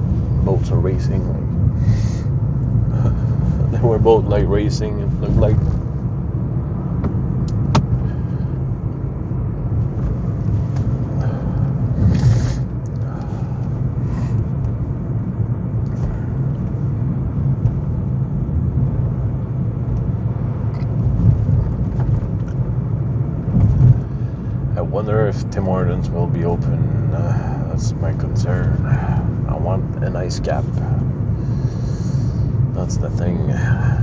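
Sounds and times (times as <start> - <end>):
road and engine rumble: 0.0 - 34.0.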